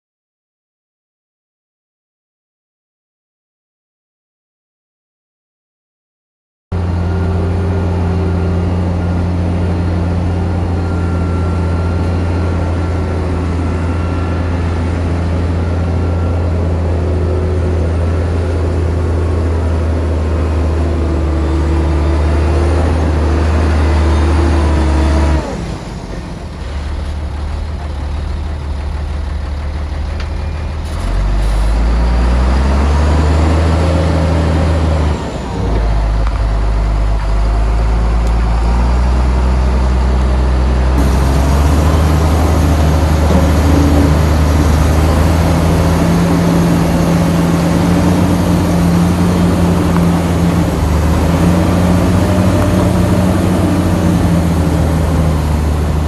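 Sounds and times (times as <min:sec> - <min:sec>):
bulldozer diesel engine running: 0:06.8 - 0:56.0.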